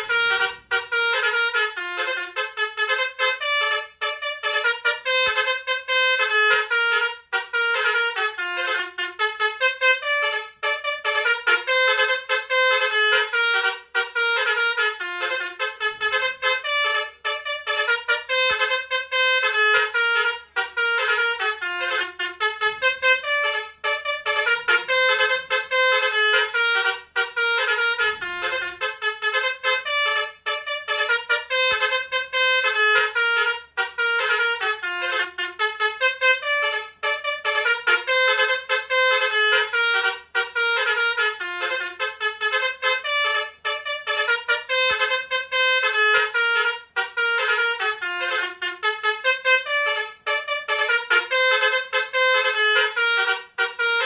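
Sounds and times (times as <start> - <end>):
multi-tone bus horn tune: 0.0 - 54.0.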